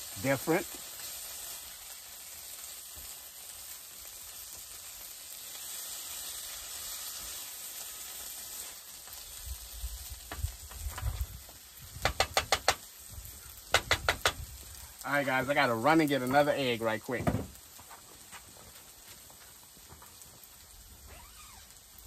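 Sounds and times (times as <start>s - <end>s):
rice sizzling in a frying pan: 0.0s - 22.0s.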